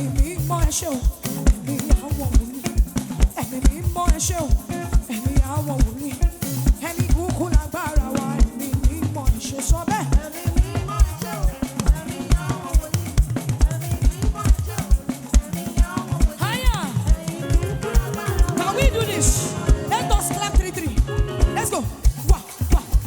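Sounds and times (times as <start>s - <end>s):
drum kit beat: 0.0s - 23.0s
live band playing praise music: 0.0s - 23.0s
person singing: 0.0s - 23.0s.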